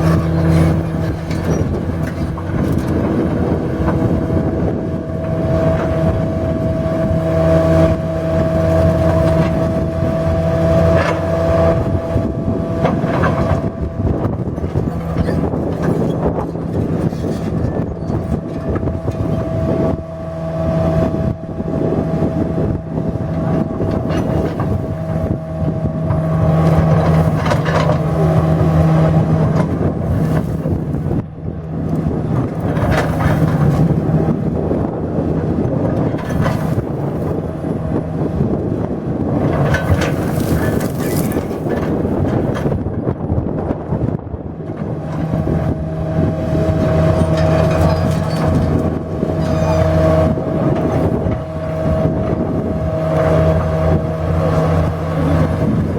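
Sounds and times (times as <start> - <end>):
demolition machine engine running: 0.0 - 55.9.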